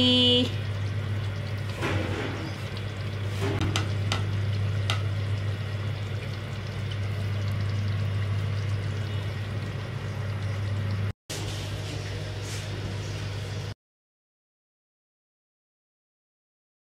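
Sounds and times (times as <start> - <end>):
gravy sizzling: 0.1 - 13.7.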